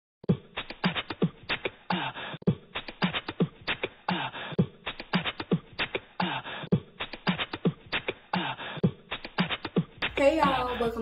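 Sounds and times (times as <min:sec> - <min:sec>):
beatbox style percussive beat: 0:00.2 - 0:11.0.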